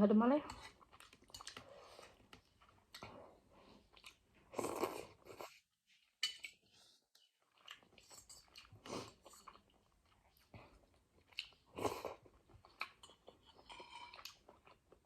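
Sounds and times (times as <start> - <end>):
chewing and crunching food: 0.4 - 15.0.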